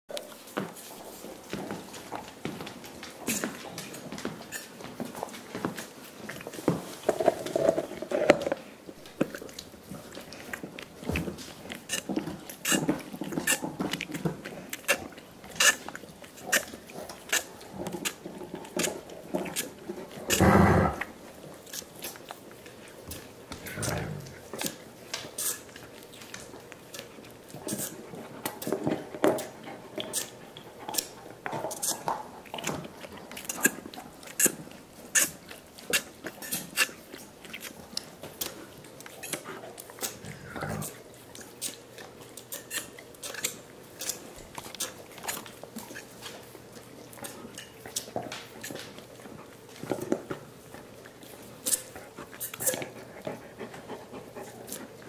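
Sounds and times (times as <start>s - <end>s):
dogs slurping: 0.1s - 55.0s
teeth clicking on bone: 7.1s - 55.0s.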